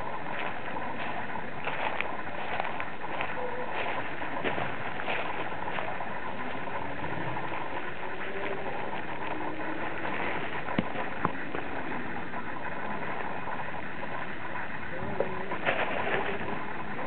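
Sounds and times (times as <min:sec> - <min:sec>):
steady background noise: 0:00.0 - 0:17.0
footsteps on dry leaves: 0:00.1 - 0:12.8, 0:15.3 - 0:17.0.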